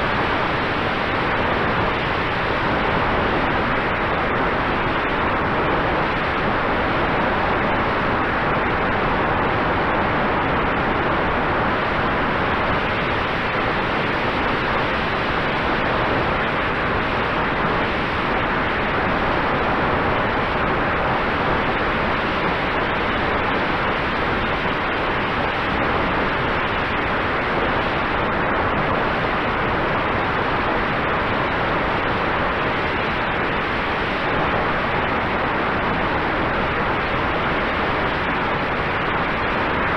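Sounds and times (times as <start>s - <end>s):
faint steady tone: 0.0s - 39.9s.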